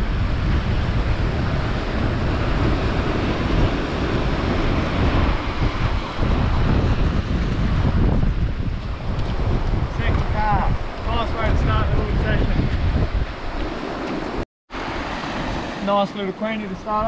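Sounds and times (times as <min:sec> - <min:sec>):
surf washing over rocks: 0:00.0 - 0:17.0
wind buffeting microphone: 0:00.0 - 0:17.0.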